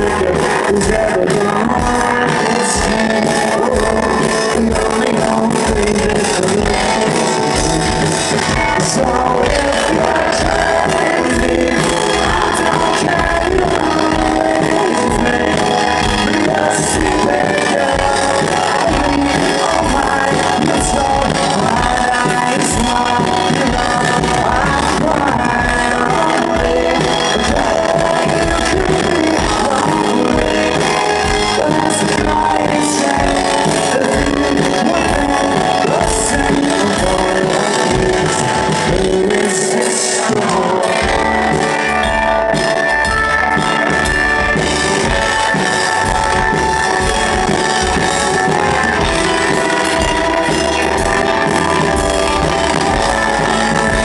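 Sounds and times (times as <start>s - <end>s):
electric guitars: 0.0s - 54.0s
live rock band playing loudly: 0.0s - 54.0s.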